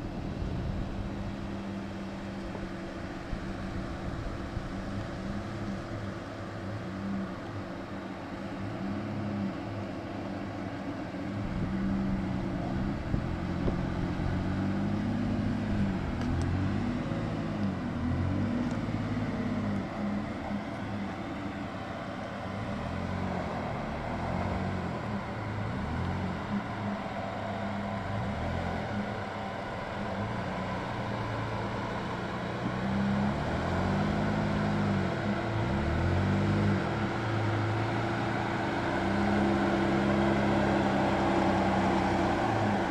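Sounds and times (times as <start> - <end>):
steady underlying tone: 0.0 - 42.9
truck engine revving: 0.0 - 42.9.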